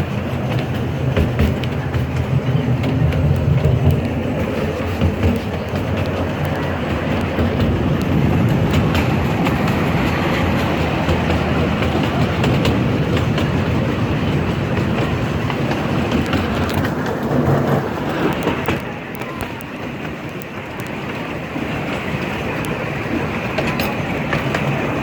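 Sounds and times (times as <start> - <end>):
train rumbling along track: 0.0 - 25.0
wheels clicking over rail joints: 0.0 - 25.0.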